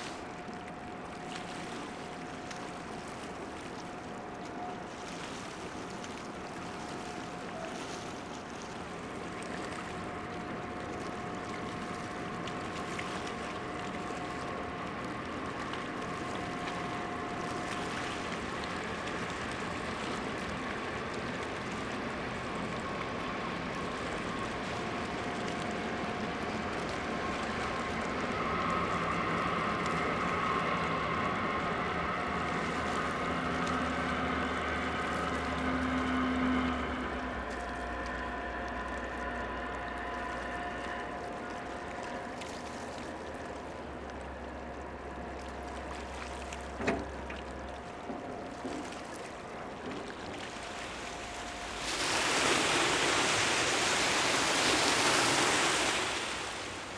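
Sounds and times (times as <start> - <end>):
rushing water: 0.0 - 56.9
ship engine drone: 0.0 - 56.9.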